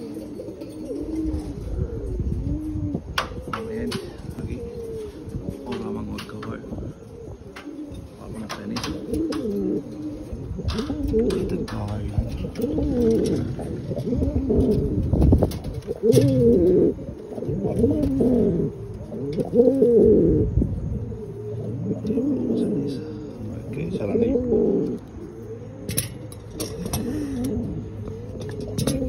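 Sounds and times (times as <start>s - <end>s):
pigeon cooing: 0.0s - 29.0s.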